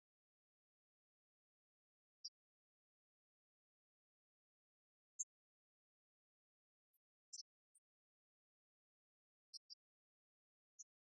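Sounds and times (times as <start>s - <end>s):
faint high-pitched chirps: 0.0s - 11.0s.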